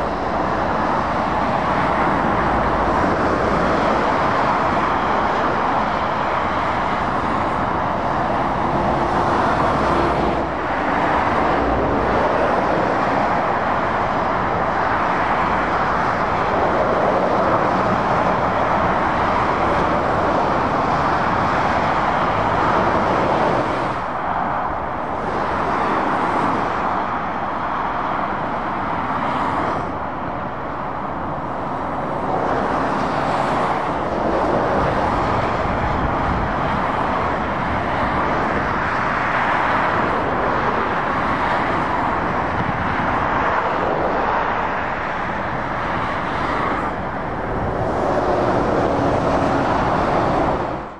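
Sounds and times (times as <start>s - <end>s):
motorway traffic tyre noise: 0.0s - 50.9s.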